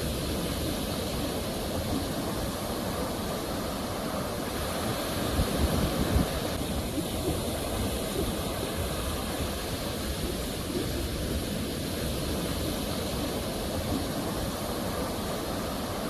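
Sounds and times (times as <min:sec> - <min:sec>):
sea waves washing on shore: 0:00.0 - 0:16.0.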